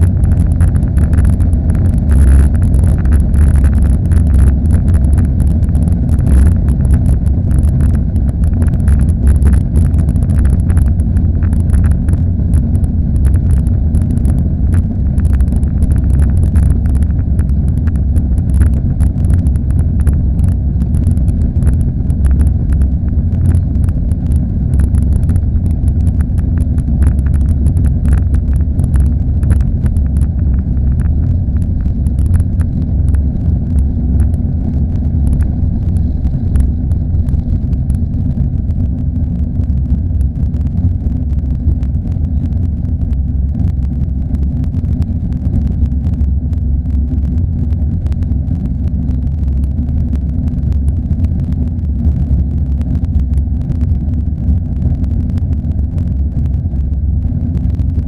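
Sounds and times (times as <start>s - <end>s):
jet engines rumbling: 0.0s - 52.0s.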